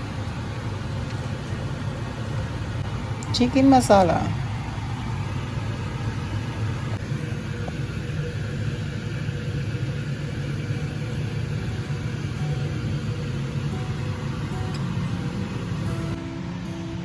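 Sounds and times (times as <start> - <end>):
appliance motor humming: 0.0 - 17.0.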